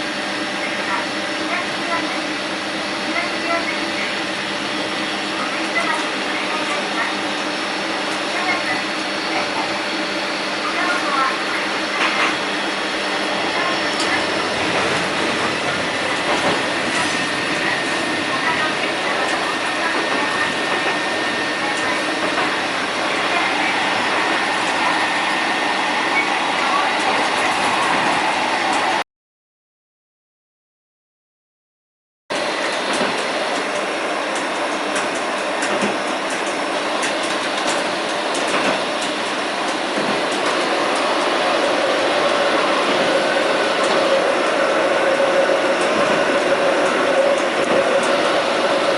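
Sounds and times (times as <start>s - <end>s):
train running from inside carriage: 0.0s - 29.0s, 32.3s - 48.9s.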